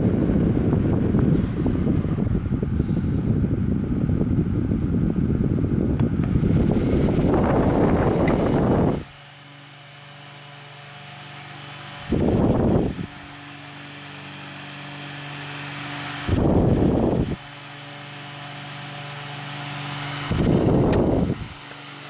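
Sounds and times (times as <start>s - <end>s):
air stream rushing over microphone: 0.0s - 9.2s, 10.0s - 17.4s, 19.6s - 21.7s
fan motor hum: 0.0s - 22.0s.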